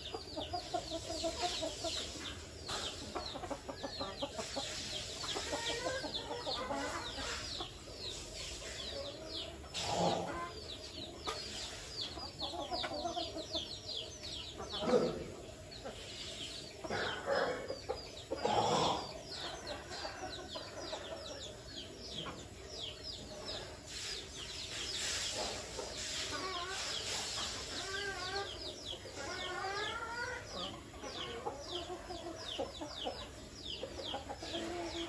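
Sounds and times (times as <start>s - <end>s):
chickens clucking and calling: 0.0s - 35.0s.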